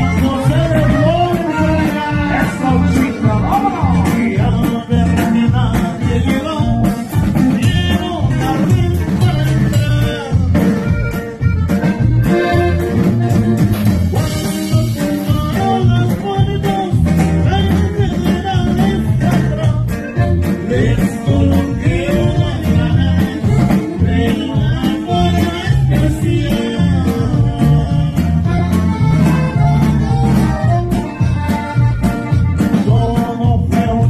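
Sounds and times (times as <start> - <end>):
live band music with saxophone: 0.0 - 34.0.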